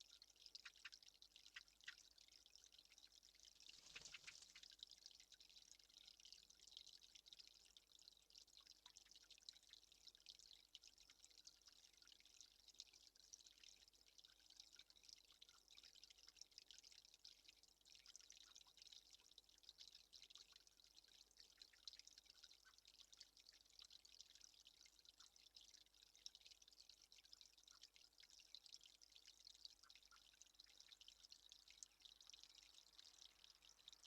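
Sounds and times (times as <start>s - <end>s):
water trickling in fine drips: 0.0s - 34.0s.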